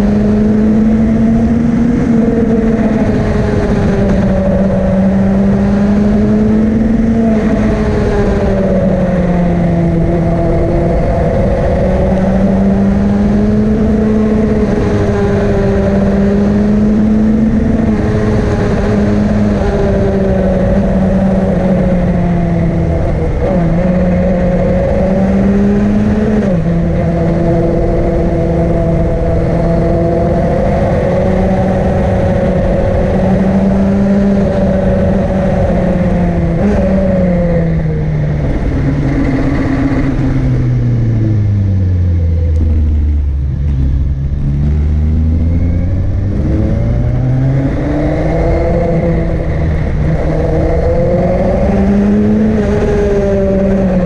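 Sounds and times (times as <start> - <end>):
vehicle engine climbing: 0.0 - 54.0.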